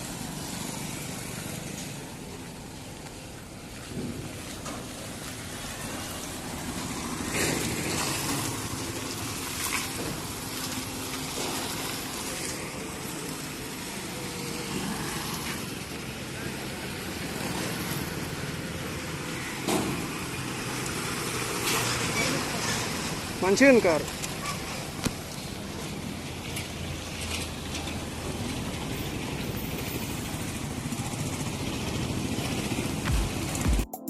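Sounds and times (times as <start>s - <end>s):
car engines running: 0.0s - 33.8s.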